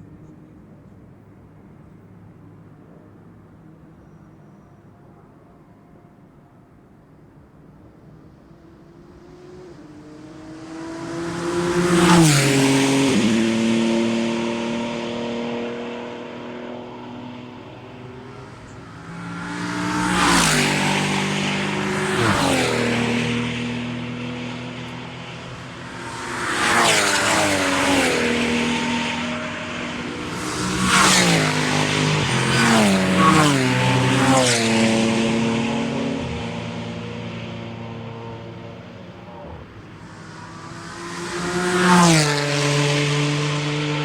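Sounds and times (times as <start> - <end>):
race cars passing at speed: 7.1 - 44.0.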